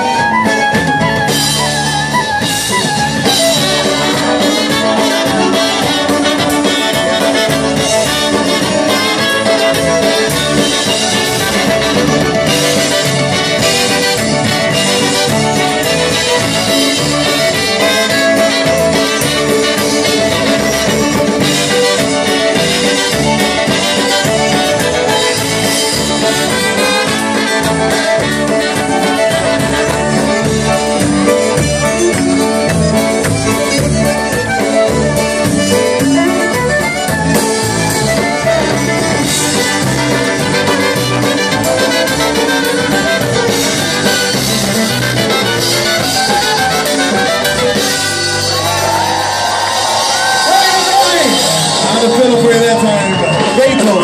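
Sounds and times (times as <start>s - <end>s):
polka band playing: 0.0s - 54.0s.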